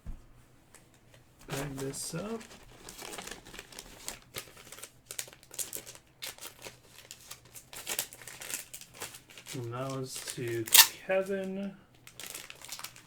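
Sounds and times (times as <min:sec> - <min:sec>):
cards clicking and wrappers crinkling: 0:00.7 - 0:13.0.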